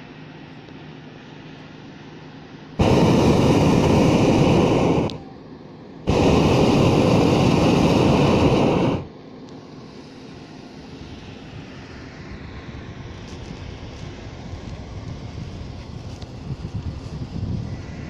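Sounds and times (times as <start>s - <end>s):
propane burner blasts: 0.0s - 18.0s.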